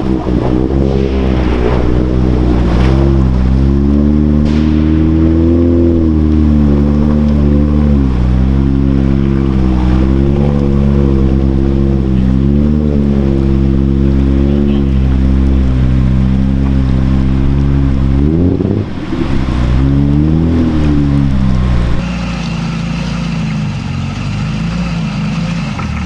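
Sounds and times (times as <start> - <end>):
off-road truck engine revving: 0.0 - 26.0
truck driving through water: 0.0 - 26.0.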